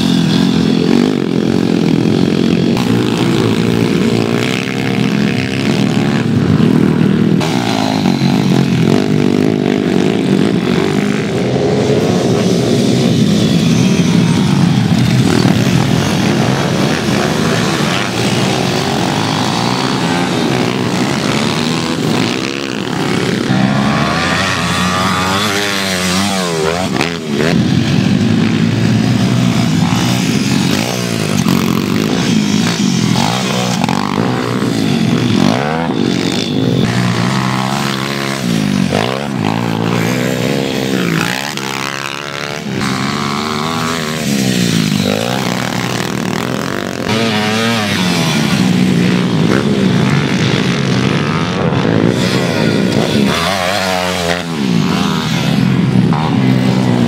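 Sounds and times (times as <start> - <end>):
small motorbike engines revving: 0.0 - 57.0.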